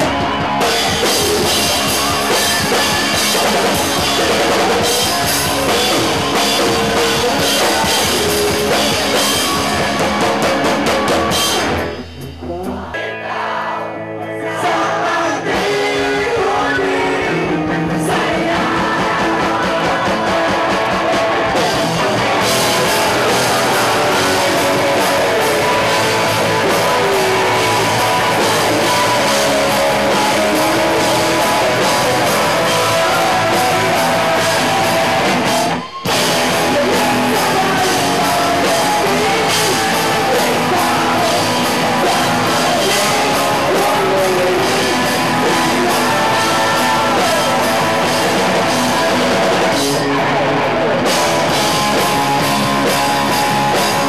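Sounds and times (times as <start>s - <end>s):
man singing lead vocals: 0.0s - 54.0s
rock band playing live: 0.0s - 54.0s.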